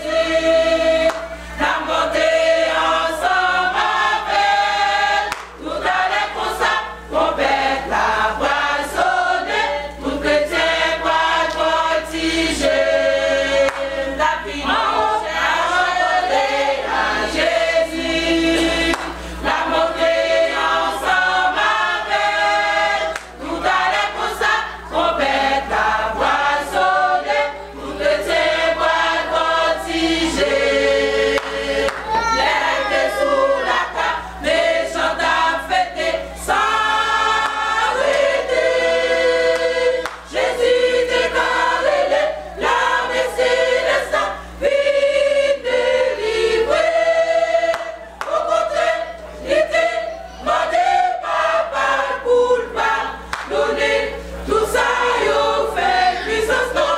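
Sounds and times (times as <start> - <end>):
women's choir singing: 0.0 - 56.9.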